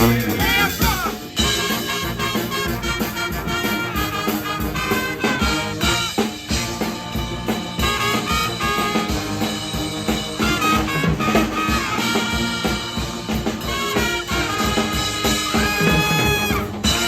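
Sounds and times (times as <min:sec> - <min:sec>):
pep band playing: 0:00.0 - 0:17.0.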